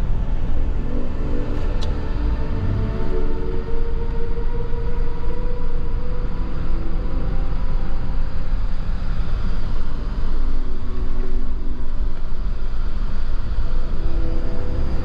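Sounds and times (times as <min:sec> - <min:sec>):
car engine rumble from inside: 0:00.0 - 0:15.0
tyres on snowy road: 0:00.0 - 0:15.0.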